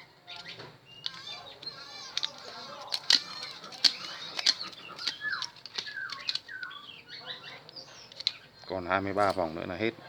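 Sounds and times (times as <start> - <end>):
small birds chirping: 0.0 - 10.0
sharp clicks: 0.3 - 9.5.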